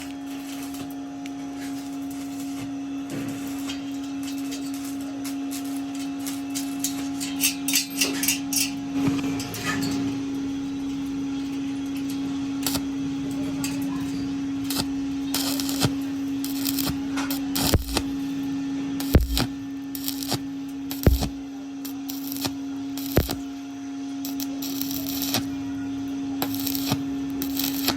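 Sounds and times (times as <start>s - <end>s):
electrical machine hum: 0.0s - 27.9s.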